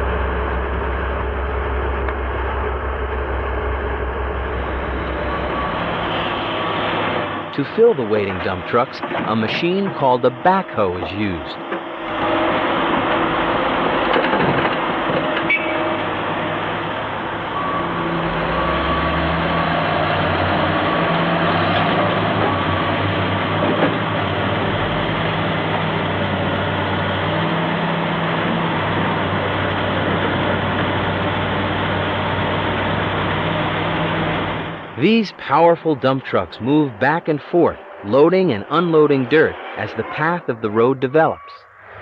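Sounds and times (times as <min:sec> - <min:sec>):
diesel engines running under load: 0:00.0 - 0:42.0.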